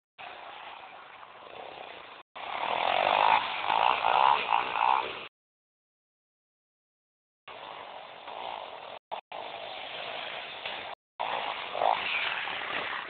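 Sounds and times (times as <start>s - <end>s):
dirt bike engine revving: 0.2s - 5.3s, 7.5s - 13.0s.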